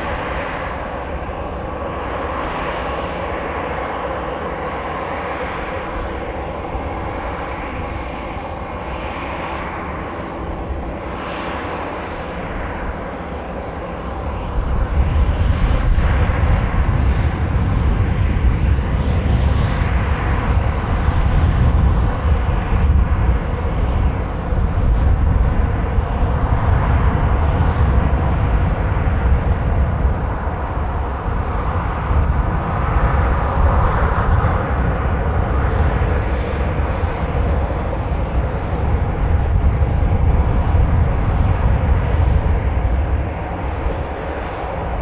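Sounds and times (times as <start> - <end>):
airliner engine noise: 0.0 - 45.0
wind buffeting microphone: 0.0 - 45.0.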